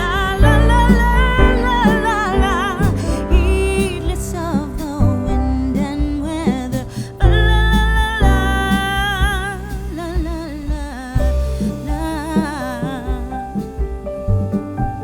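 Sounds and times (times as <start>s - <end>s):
slow melody with vibrato: 0.0s - 14.5s.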